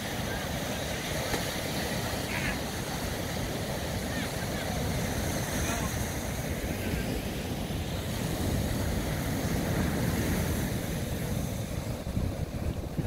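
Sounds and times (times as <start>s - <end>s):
ocean waves breaking on beach: 0.0s - 13.0s
wind rumbling on microphone: 1.8s - 13.0s.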